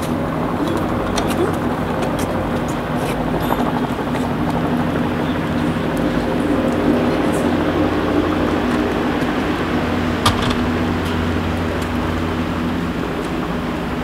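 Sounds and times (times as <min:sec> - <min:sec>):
constant wash of noise: 0:00.0 - 0:14.0
low mechanical hum: 0:00.0 - 0:14.0.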